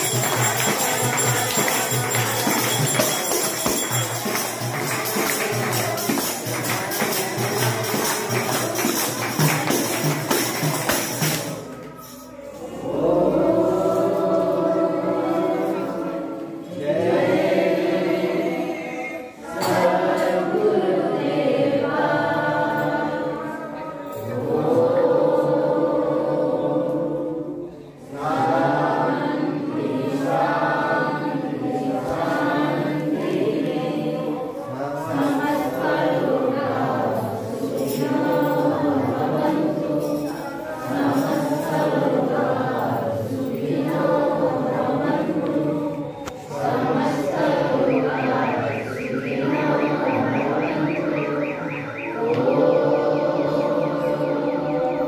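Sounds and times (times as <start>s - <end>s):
group singing devotional song: 0.0s - 55.0s.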